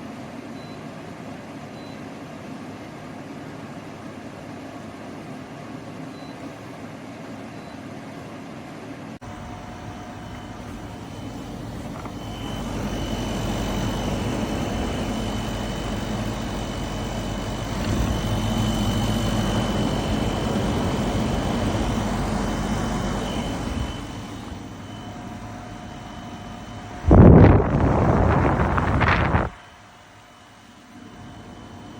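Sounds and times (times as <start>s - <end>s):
air conditioner fan running: 0.0s - 31.9s.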